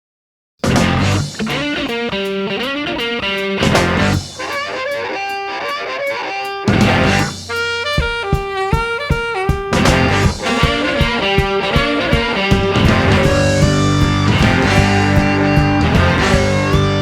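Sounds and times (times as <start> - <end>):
drum hits: 0.6 - 5.4, 6.6 - 17.0
electric guitar notes: 0.6 - 17.0.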